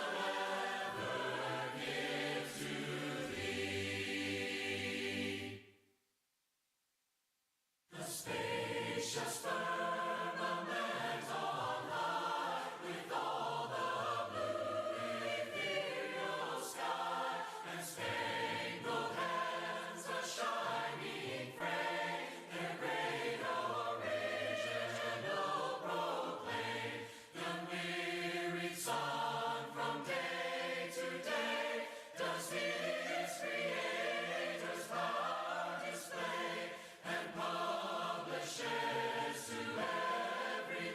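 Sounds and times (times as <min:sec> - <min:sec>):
choir singing a hymn unaccompanied: 0:00.0 - 0:05.7, 0:07.9 - 0:40.9.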